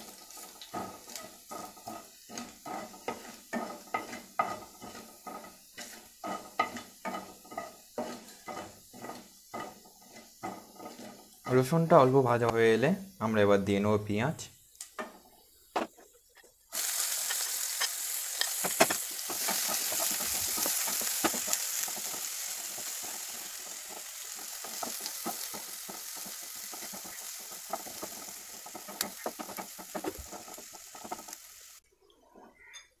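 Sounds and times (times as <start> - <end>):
wooden spatula scraping a pan: 0.0 - 12.3, 15.8 - 32.7
onion sizzling in hot oil: 0.0 - 31.8.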